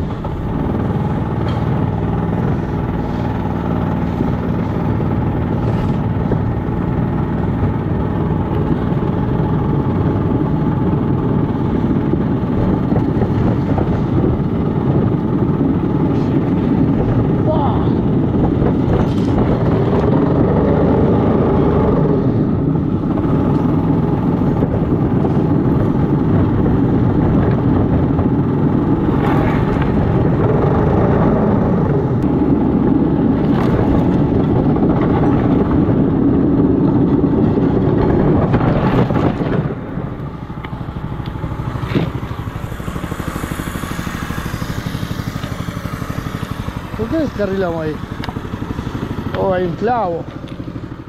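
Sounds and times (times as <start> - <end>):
small engine running under load: 0.0 - 51.0.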